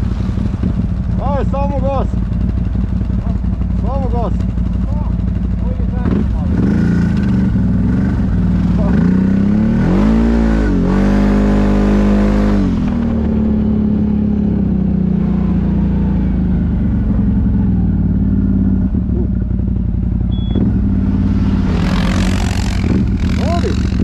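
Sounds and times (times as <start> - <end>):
atv engine under throttle: 0.0 - 24.0.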